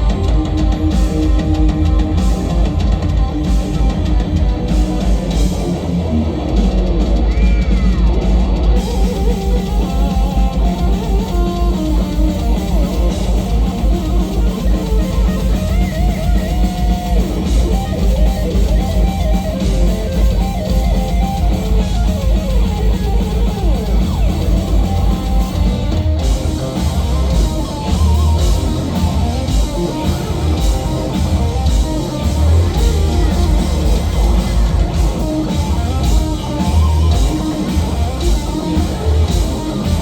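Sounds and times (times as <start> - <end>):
heavy drumming: 0.0 - 40.0
lead electric guitar: 0.0 - 40.0.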